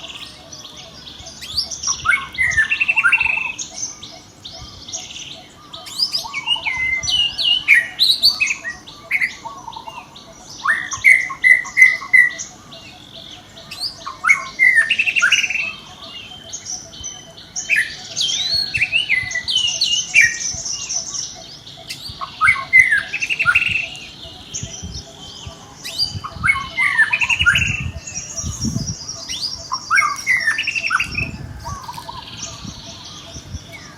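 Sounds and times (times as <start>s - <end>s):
high-pitched animal calls: 5.4s - 33.9s.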